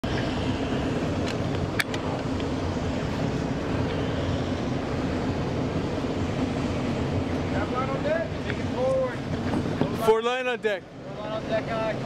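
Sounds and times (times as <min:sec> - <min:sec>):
boat engines running: 0:00.0 - 0:12.0.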